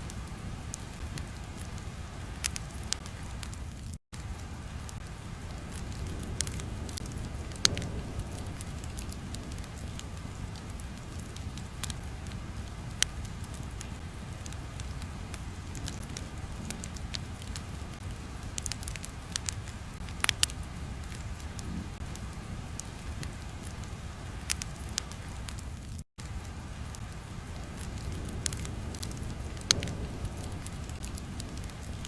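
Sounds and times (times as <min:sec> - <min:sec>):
fire popping and crackling: 0:00.0 - 0:32.0
fire rumbling: 0:00.0 - 0:32.0.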